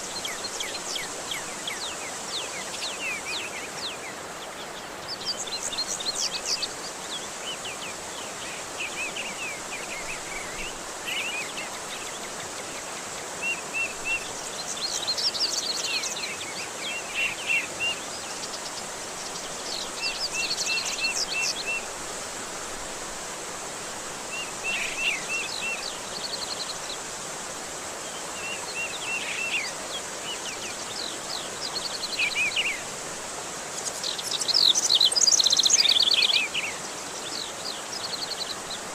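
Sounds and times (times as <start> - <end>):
small birds chirping: 0.0 - 22.0, 24.2 - 27.2, 28.0 - 38.9
running water rushing: 0.0 - 38.9.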